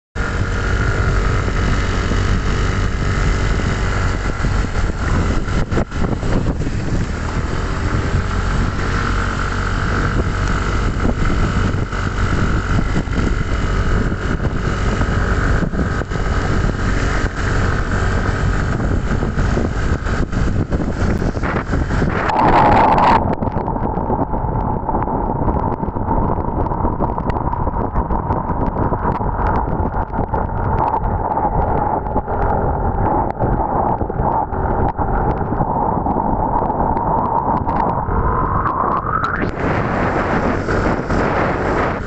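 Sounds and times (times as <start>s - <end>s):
tyres on wet road: 0.2s - 42.0s
vehicle engine running: 0.2s - 42.0s
wind on microphone: 0.2s - 42.0s.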